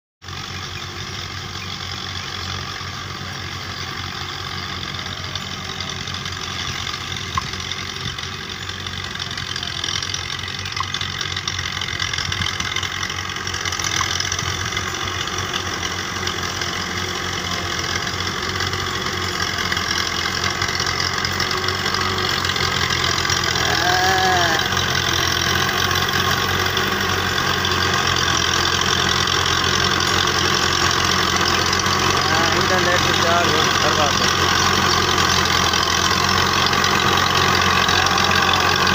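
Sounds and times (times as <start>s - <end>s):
tractor diesel engine running: 0.2s - 38.9s.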